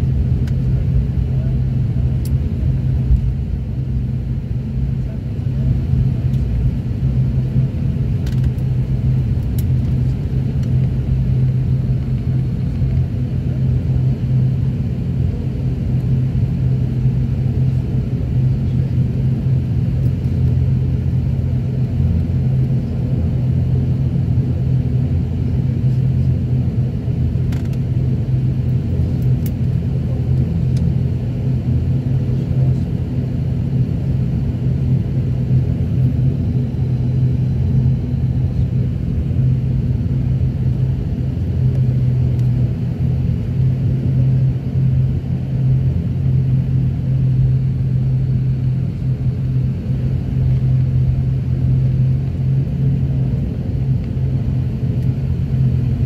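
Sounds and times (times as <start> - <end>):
airliner engine rumble: 0.0 - 56.0.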